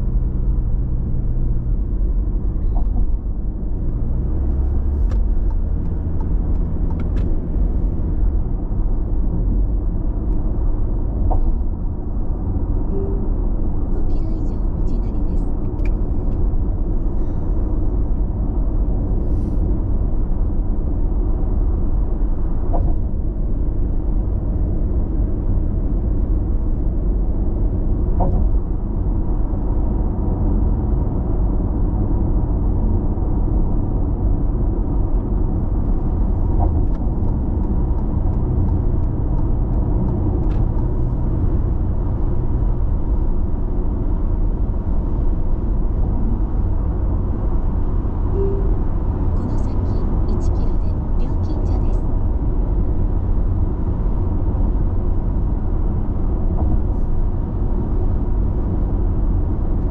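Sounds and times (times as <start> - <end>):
road and tyre rumble in car: 0.0 - 59.9.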